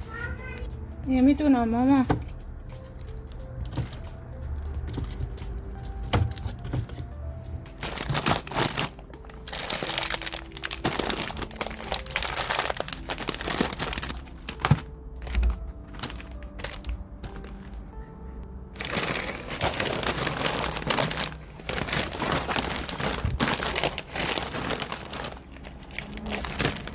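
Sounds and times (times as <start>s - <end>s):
soft background music: 0.0s - 26.9s
plastic packaging crinkling: 2.8s - 7.1s, 7.7s - 18.0s, 18.8s - 26.9s.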